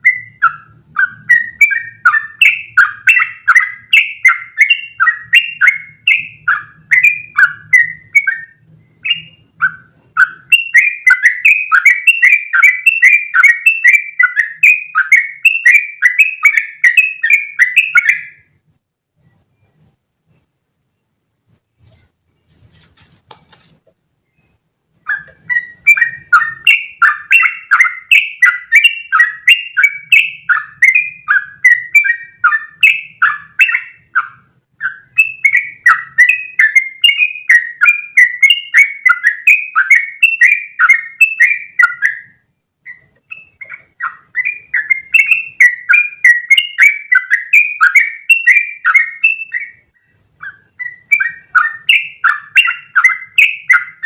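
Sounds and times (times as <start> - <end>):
bulbul chattering song: 0.0 - 21.3, 24.0 - 54.0.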